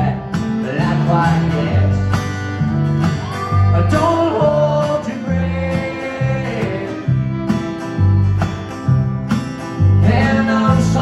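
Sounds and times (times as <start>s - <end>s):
fiddle melody: 0.0s - 11.0s
strummed acoustic guitar: 0.0s - 11.0s
upright bass: 0.0s - 11.0s.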